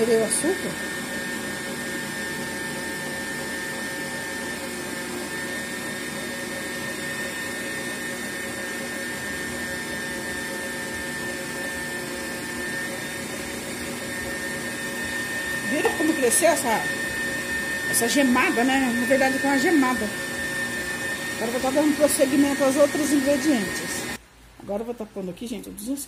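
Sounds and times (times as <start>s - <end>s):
stand mixer motor whine: 0.0s - 24.2s.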